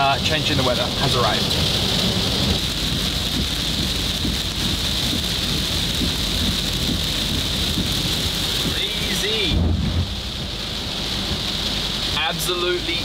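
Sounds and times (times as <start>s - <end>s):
heavy rain on a vehicle: 0.0s - 13.0s
low vehicle rumble: 0.0s - 13.0s.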